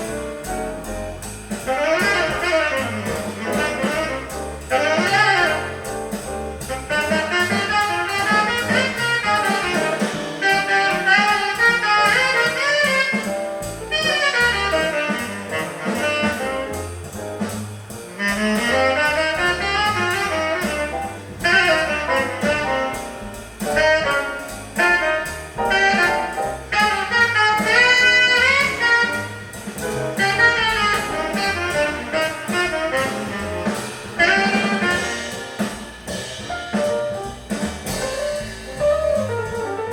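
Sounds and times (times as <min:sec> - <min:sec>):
jazz with saxophone melody: 0:00.0 - 0:39.9.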